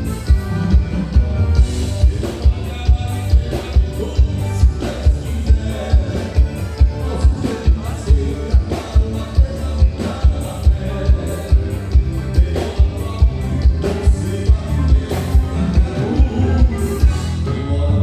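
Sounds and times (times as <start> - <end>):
bass drum beat: 0.0 - 17.6
live band playing dance music: 0.0 - 18.0.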